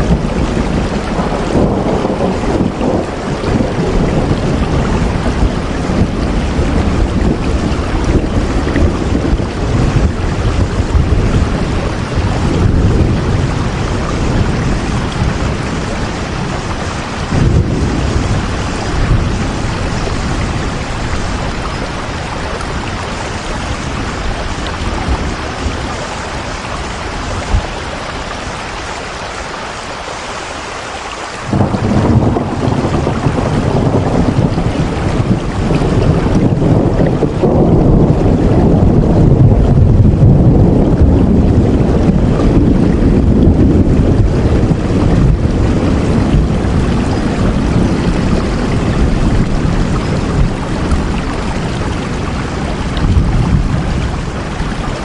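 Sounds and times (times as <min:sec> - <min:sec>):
deep rumble: 0:00.0 - 0:28.7, 0:31.4 - 0:55.0
heavy rain: 0:00.0 - 0:55.0.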